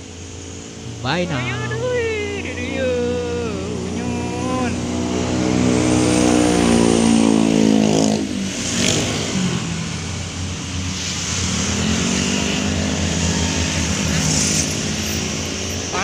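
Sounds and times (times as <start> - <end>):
bus diesel engine passing: 0.0 - 16.0
motorcycles passing: 0.0 - 16.0
pickup truck passing: 0.0 - 16.0.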